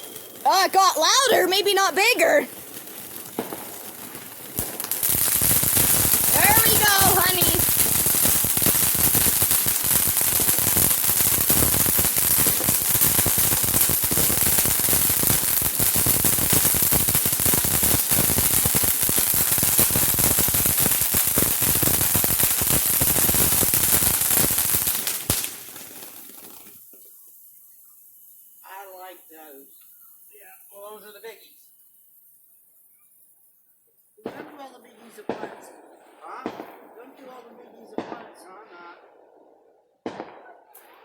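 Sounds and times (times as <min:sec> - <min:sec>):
firework crackling: 0:00.0 - 0:33.5, 0:34.1 - 0:39.0.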